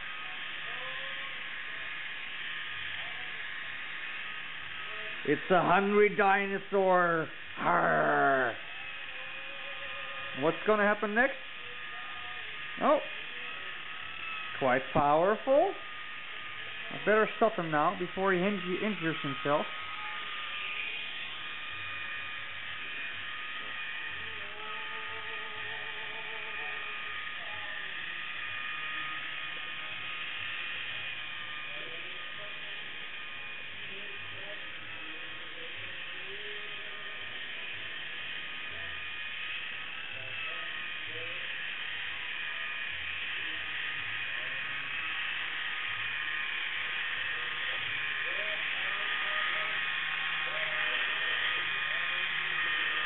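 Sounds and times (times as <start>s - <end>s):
small electric motor whirring: 0.0s - 53.0s.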